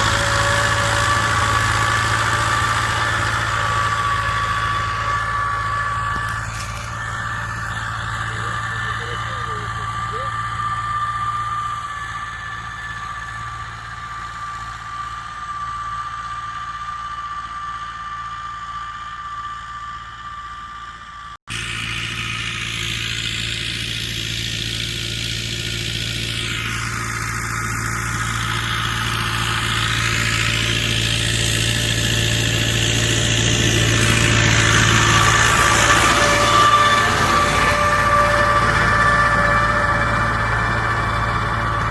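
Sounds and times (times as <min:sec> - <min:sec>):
steady whine: 0:00.0 - 0:41.9
tractor diesel engine running: 0:00.0 - 0:41.9.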